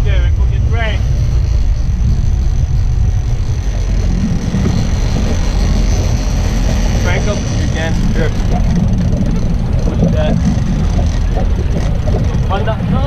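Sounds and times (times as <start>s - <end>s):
motorboat engine rumble: 0.0s - 13.0s
wind buffeting microphone: 0.0s - 13.0s.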